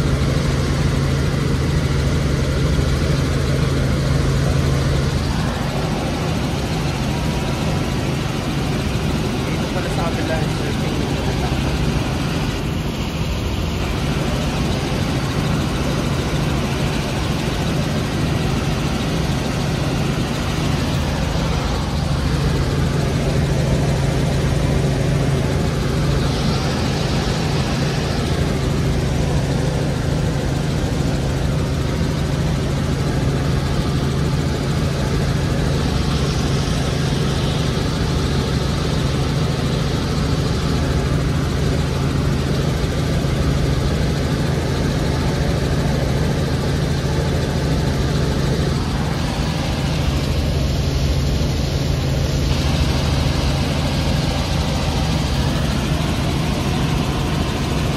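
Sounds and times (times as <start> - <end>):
helicopter engine and rotor drone: 0.0 - 57.9.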